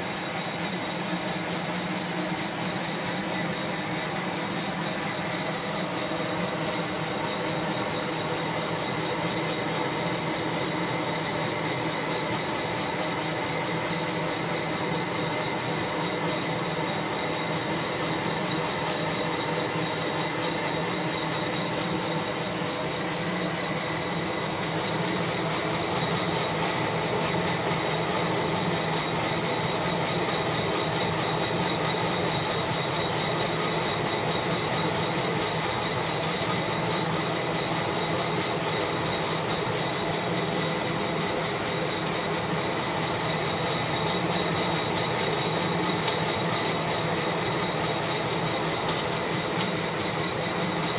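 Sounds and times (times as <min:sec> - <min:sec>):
coffee roaster whirring and hissing: 0:00.0 - 0:50.9.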